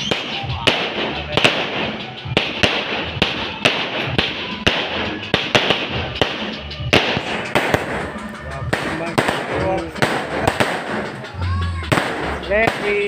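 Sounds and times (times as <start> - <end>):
firework shots booming: 0.0 - 13.0
firework stars crackling: 0.0 - 13.0.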